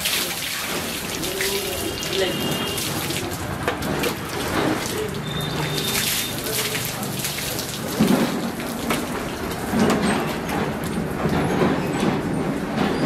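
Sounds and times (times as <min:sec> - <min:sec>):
water splashing on concrete floor: 0:00.0 - 0:12.1.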